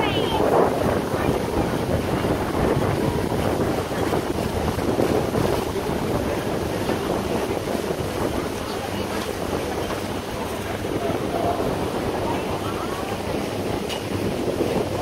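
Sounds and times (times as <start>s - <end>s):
boat rushing over water: 0.0s - 15.0s
wind buffeting microphone: 0.0s - 15.0s.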